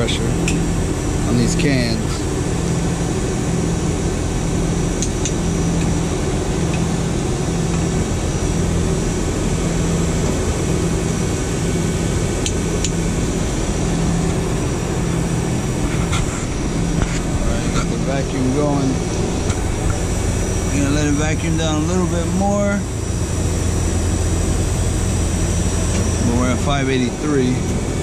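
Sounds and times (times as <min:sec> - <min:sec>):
machinery drone: 0:00.0 - 0:28.0
pulsing low hum: 0:00.0 - 0:28.0.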